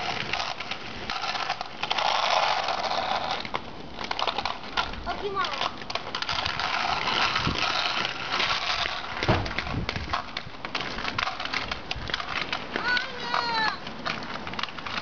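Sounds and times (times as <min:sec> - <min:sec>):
skate wheels rolling on asphalt: 0:00.0 - 0:15.0.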